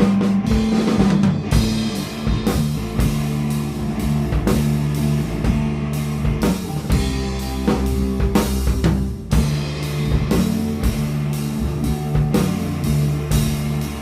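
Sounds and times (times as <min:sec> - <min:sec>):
bass guitar notes: 0:00.0 - 0:14.0
drum and cymbal hits: 0:00.0 - 0:14.0
electric guitar: 0:00.0 - 0:14.0.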